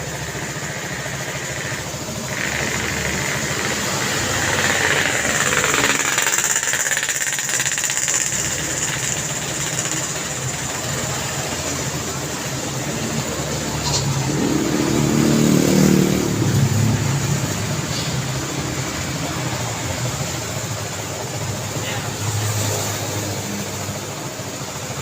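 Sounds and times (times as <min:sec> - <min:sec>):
road traffic noise: 0:00.0 - 0:25.0
vehicle engine passing: 0:00.0 - 0:25.0.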